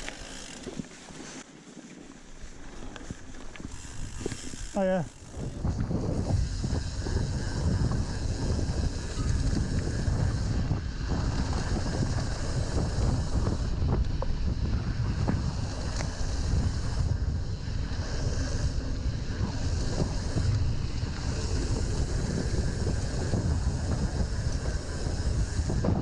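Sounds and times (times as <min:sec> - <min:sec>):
bike rattling on trail: 0:00.0 - 0:26.0
wind buffeting microphone: 0:03.0 - 0:26.0.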